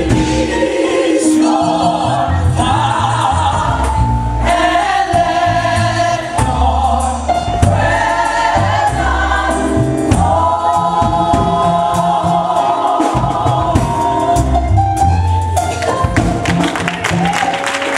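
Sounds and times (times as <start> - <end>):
choir singing gospel: 0.0 - 16.2
bass line: 0.0 - 17.3.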